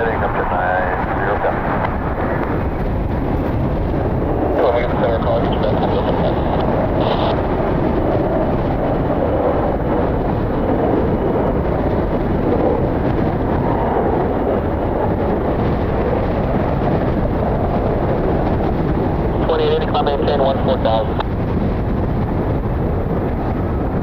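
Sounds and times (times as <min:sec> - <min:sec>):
gusty wind on microphone: 0:00.0 - 0:24.0.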